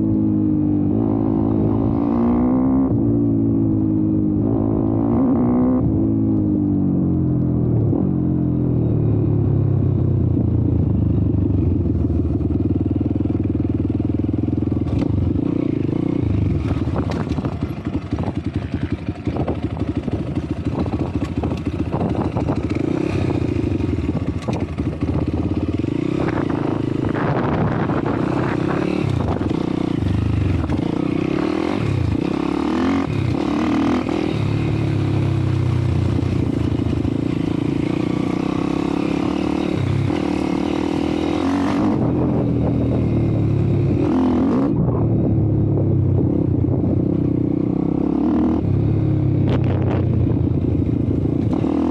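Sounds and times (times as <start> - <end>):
motorbike engine revving: 0.7 - 6.3, 10.8 - 51.9.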